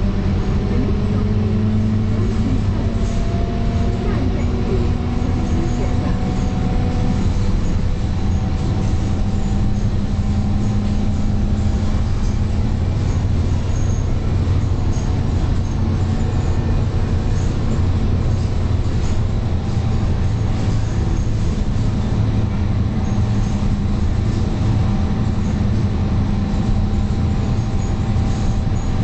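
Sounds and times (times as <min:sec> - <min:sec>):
bus diesel engine droning: 0:00.0 - 0:29.0
road noise: 0:00.0 - 0:29.0.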